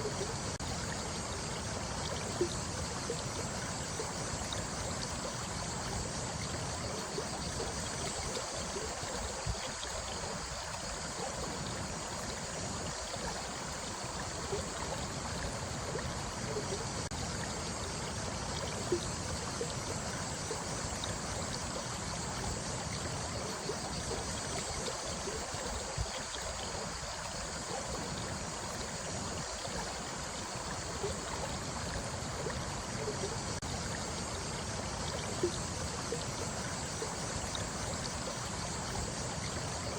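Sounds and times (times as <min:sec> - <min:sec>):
stream flowing: 0:00.0 - 0:39.9
water gurgles: 0:00.0 - 0:39.9.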